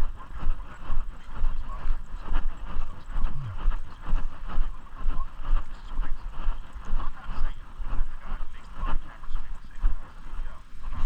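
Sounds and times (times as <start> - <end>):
walking footsteps: 0.0 - 11.0.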